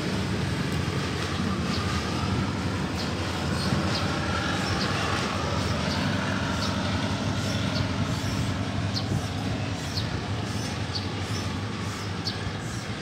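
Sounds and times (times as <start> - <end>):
diesel train engines droning: 0.0 - 13.0.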